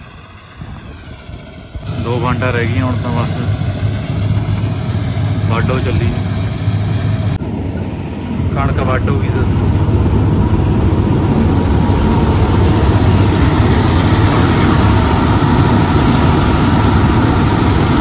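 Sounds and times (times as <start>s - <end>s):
combine harvester engine rumble: 0.0s - 18.0s
thin steady whine: 0.0s - 18.0s.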